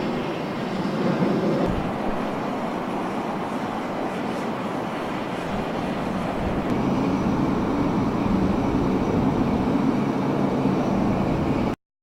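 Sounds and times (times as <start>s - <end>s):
jet engines rumbling: 0.0s - 11.8s.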